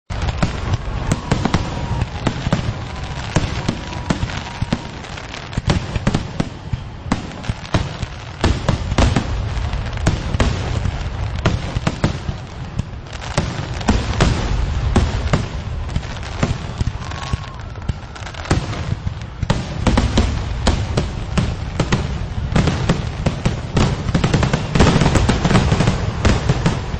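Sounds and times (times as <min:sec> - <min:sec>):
distant fireworks rumble: 0:00.1 - 0:26.9
fireworks bangs and crackles: 0:00.1 - 0:26.9.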